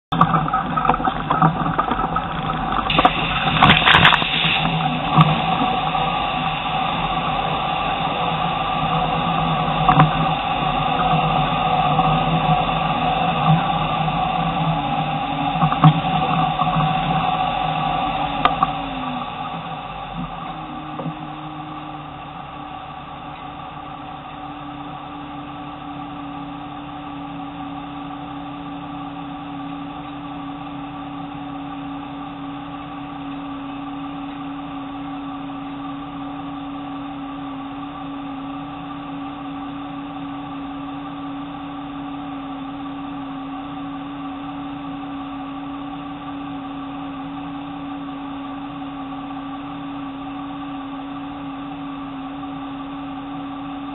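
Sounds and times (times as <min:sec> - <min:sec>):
car engine idling: 0:00.0 - 0:53.9
low whine: 0:00.0 - 0:53.9.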